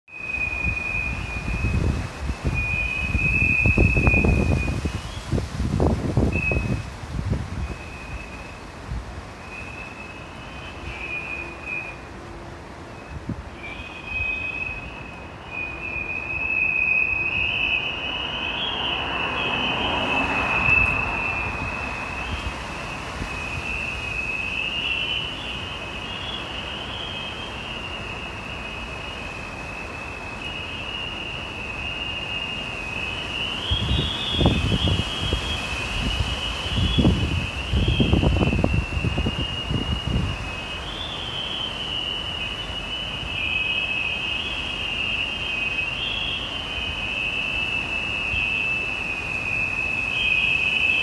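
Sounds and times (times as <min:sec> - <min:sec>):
facade panels whistling: 0:00.1 - 0:51.0
wind gusts: 0:00.1 - 0:51.0.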